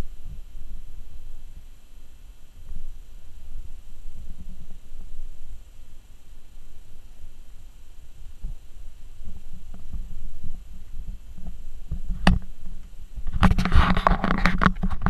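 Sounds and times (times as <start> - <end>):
low rumbling and soft thumps: 0.0 - 15.0.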